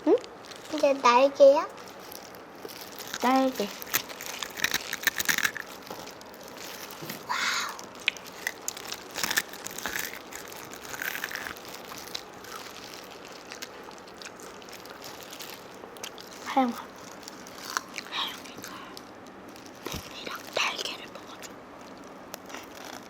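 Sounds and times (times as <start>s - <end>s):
fried chicken crunching: 0.3s - 23.0s.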